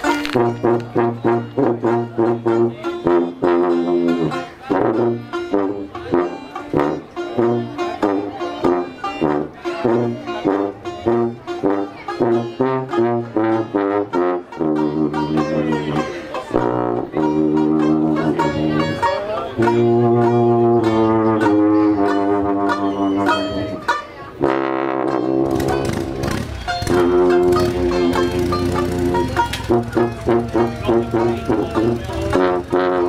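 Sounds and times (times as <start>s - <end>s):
sousaphone bass line: 0.0s - 24.0s, 25.1s - 33.0s
banjo chords: 0.0s - 33.0s
saxophone melody: 0.0s - 33.0s.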